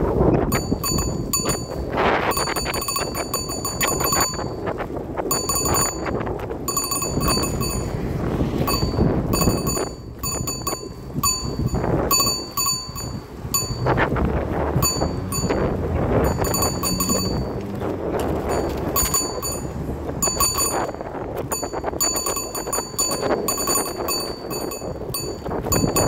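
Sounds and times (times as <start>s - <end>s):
road rumble: 0.0s - 26.0s
wind: 0.0s - 26.0s
rapid metallic ticking: 0.5s - 8.0s, 8.6s - 14.0s, 14.8s - 17.6s, 18.3s - 26.0s.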